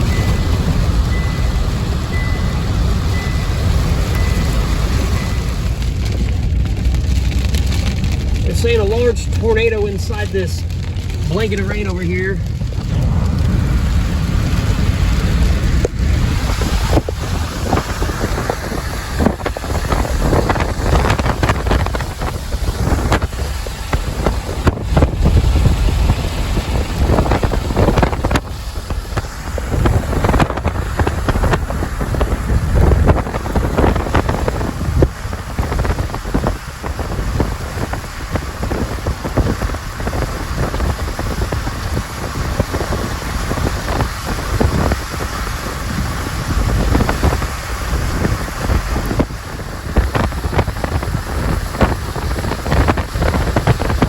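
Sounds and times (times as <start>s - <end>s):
gusty wind buffeting microphone: 0.0s - 54.0s
moving vehicle rumble: 0.0s - 54.0s.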